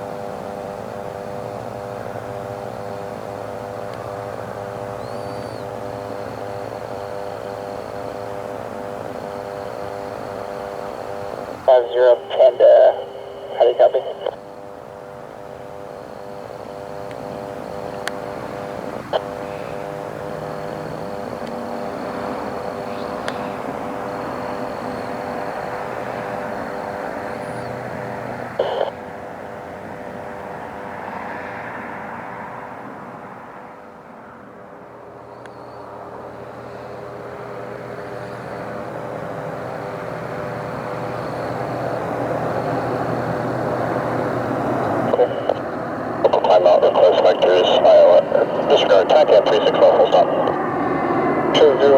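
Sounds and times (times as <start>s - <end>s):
military aircraft engines droning: 0.0s - 51.9s.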